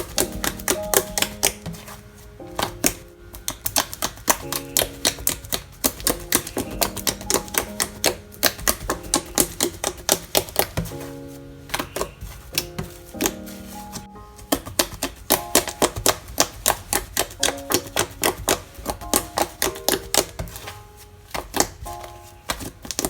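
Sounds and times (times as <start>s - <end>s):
slime clicking and popping: 0.0s - 1.9s, 2.6s - 11.0s, 11.7s - 13.4s, 14.5s - 20.6s, 21.3s - 21.9s
light background music: 0.0s - 23.0s.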